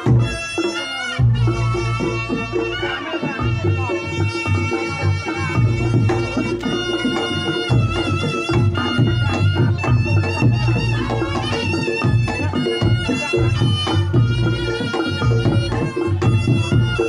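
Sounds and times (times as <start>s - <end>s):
drum strokes: 0.0s - 17.0s
shrill shawm melody: 0.0s - 17.0s.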